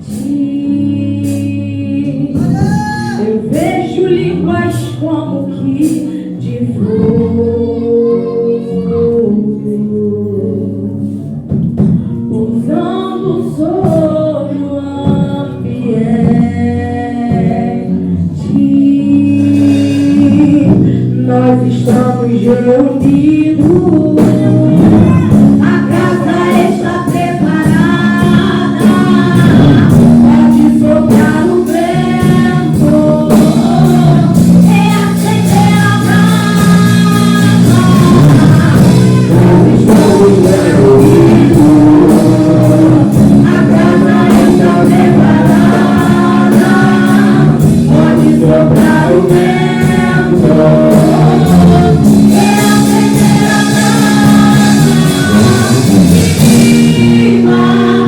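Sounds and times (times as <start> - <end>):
worship music with singers: 0.0 - 58.0.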